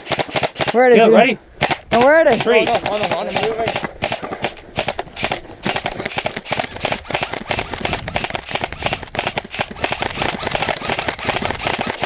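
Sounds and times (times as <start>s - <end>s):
airsoft rifles firing: 0.0s - 1.0s, 1.6s - 12.0s.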